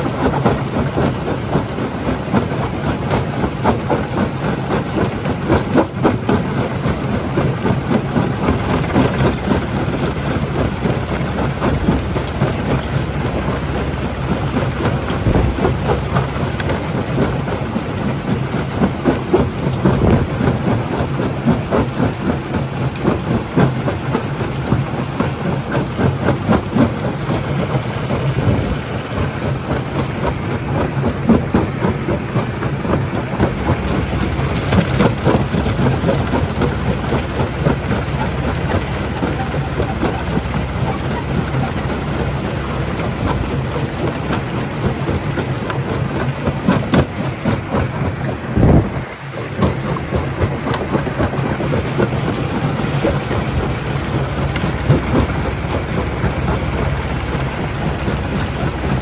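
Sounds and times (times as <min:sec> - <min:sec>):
rock crusher rumbling: 0:00.0 - 0:59.0.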